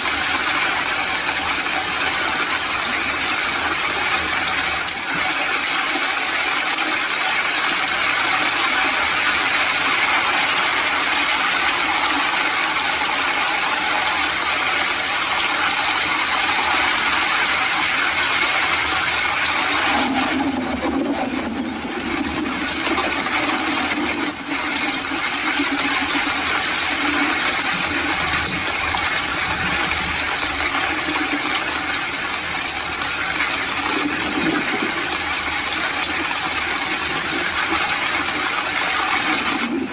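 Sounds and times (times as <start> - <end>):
rain on vehicle roof: 0.0 - 39.9.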